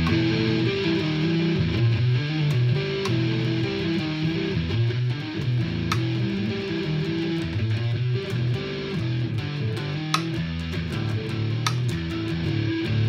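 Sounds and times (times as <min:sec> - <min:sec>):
sharp clicks: 0:00.0 - 0:01.3, 0:02.5 - 0:04.4, 0:05.1 - 0:12.4
electric guitar notes and chords: 0:00.0 - 0:13.0.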